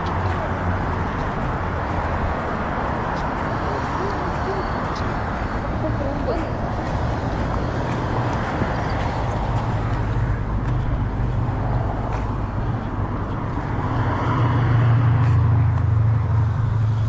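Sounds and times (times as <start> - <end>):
car approaching: 0.0 - 17.0
street traffic hum: 0.0 - 17.0.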